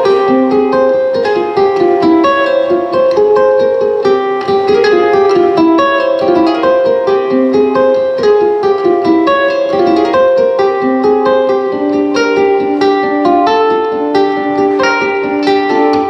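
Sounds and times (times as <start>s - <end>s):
plucked string instrument picking: 0.0s - 16.0s.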